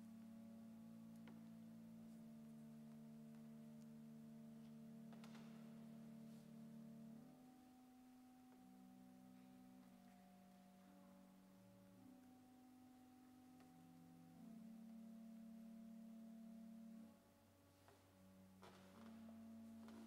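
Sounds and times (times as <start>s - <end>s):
soft music of held chords: 0.0s - 20.0s.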